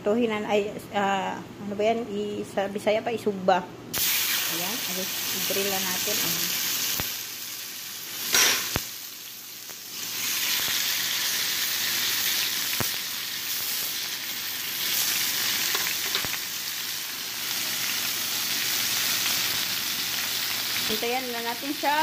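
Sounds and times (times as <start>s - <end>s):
chicken sizzling on grill pan: 4.0s - 22.0s.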